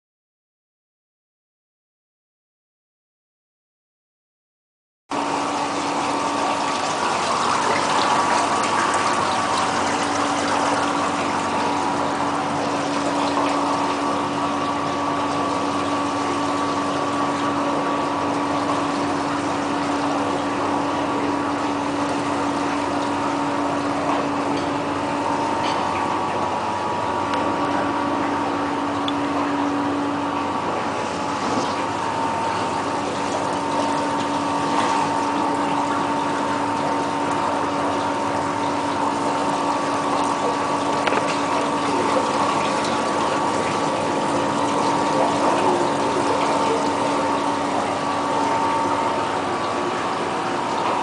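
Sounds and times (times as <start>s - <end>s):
motor or pump hum: 5.1s - 51.0s.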